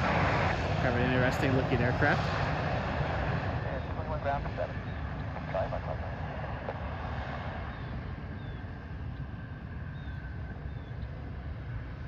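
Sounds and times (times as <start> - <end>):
distant aircraft engine rumble: 0.0 - 12.0.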